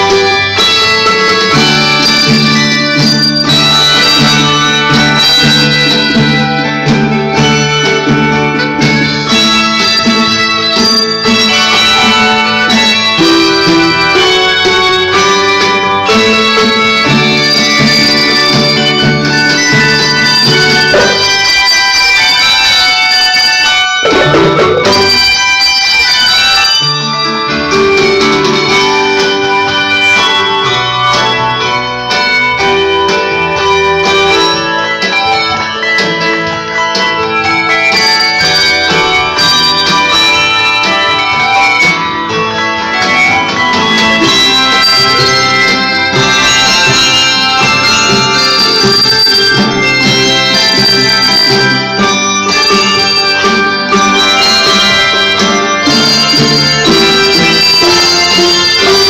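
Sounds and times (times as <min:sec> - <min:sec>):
handbell choir ringing chords: 0:00.0 - 0:59.0
low bells holding long notes: 0:00.0 - 0:59.0.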